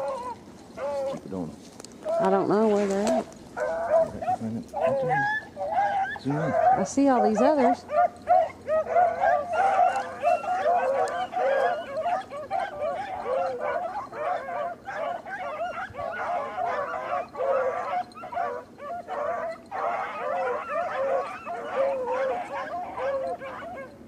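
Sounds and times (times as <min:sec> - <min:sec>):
pack of hounds baying: 0:00.0 - 0:24.0.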